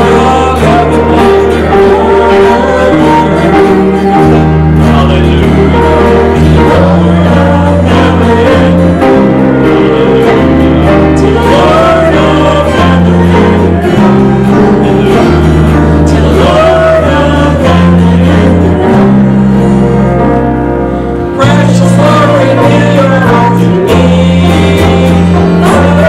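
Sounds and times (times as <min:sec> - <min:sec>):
band playing sustained chords: 0:00.0 - 0:26.0
person singing melody: 0:00.0 - 0:26.0.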